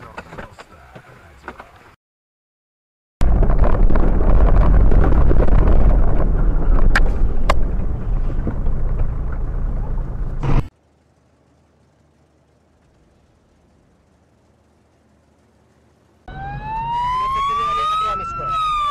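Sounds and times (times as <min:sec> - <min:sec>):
car driving rumble: 0:03.2 - 0:18.9.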